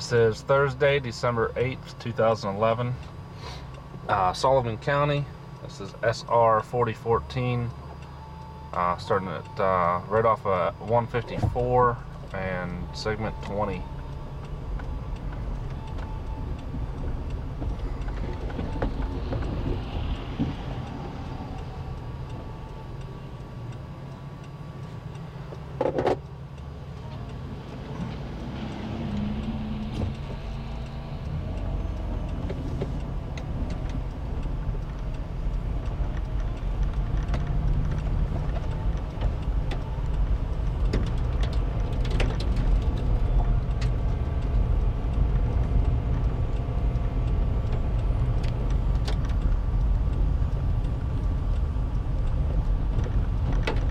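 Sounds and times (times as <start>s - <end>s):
engine and tyre rumble: 0.0s - 53.9s.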